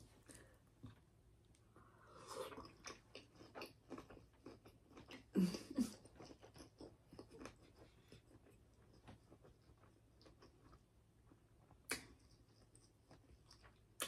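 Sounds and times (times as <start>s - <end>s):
person chewing food: 0.2s - 14.0s.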